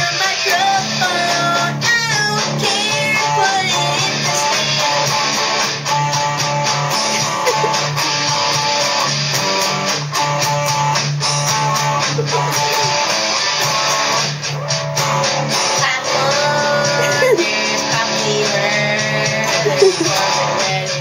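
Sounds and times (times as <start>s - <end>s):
electric guitar playing metal: 0.0s - 21.0s.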